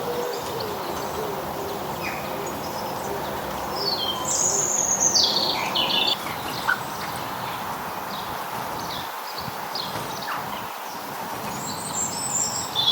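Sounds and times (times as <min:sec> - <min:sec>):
steady background hiss: 0:00.0 - 0:12.9.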